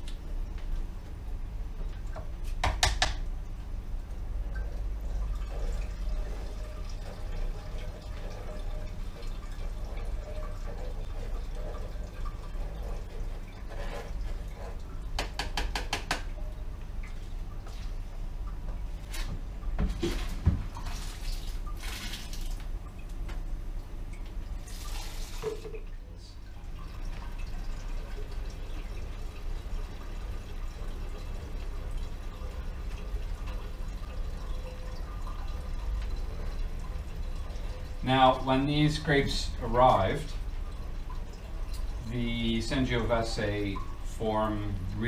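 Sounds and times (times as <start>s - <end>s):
wine trickling and dripping: 3.2s - 45.0s.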